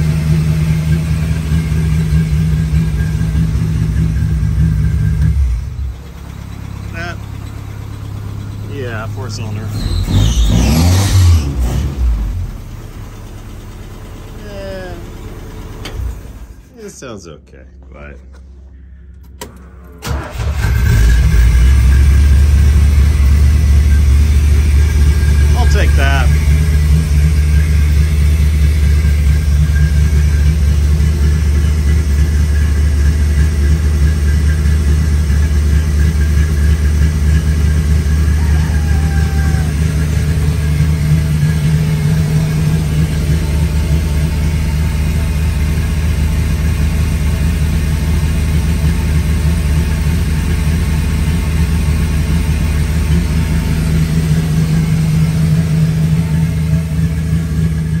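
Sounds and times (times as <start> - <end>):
jeep engine idling: 0.0 - 11.0, 11.9 - 58.0.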